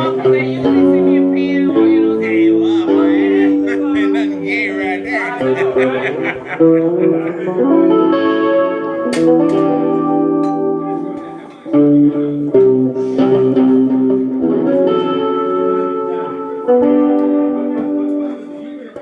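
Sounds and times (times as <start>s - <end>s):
guitar chords ringing: 0.0s - 18.9s.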